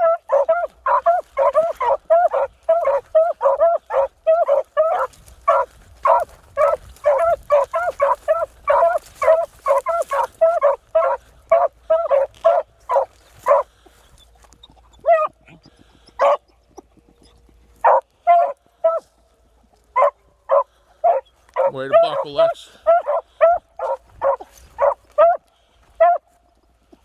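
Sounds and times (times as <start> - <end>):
hounds baying: 0.0 - 27.0.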